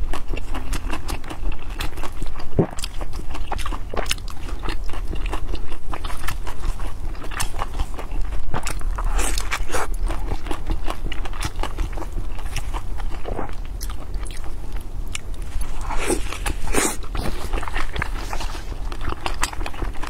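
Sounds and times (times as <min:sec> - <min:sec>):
wet chewing and biting: 0:00.0 - 0:20.0.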